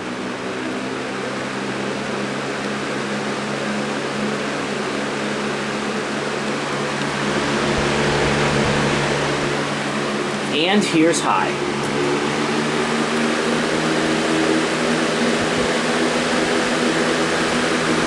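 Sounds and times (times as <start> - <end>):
box fan air rushing: 0.0 - 18.0
low motor hum: 0.0 - 18.0.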